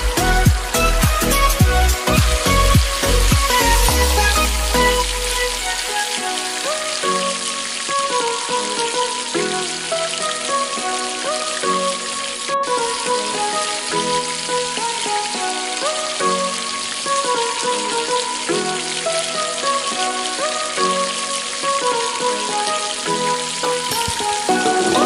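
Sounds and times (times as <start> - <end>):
background music: 0.0 - 25.0.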